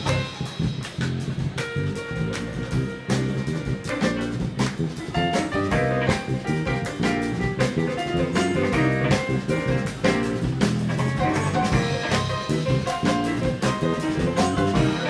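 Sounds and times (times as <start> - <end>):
drum kit: 0.0 - 15.0
jazz band playing: 0.0 - 15.0
keys playing quick runs: 1.5 - 15.0.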